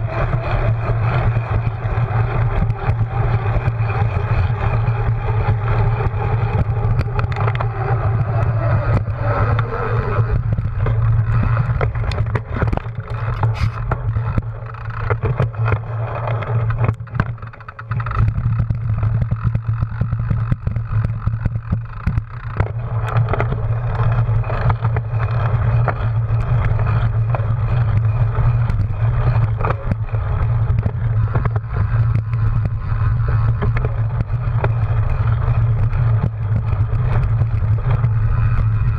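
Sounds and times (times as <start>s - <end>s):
bike clicking and rattling: 0.0s - 38.9s
tyre rumble: 0.0s - 38.9s.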